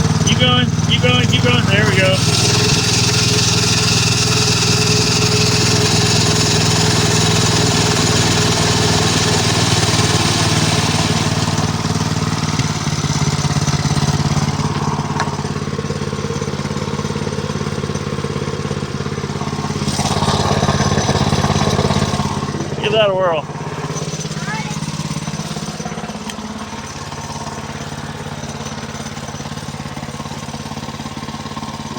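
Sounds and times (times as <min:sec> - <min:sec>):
mini bike engine idling: 0:00.0 - 0:31.9.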